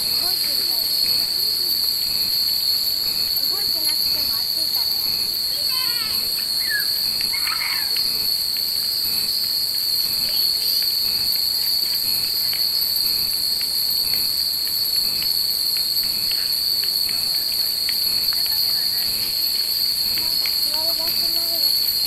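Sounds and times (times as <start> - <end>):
cicadas chorus: 0.0 - 22.0.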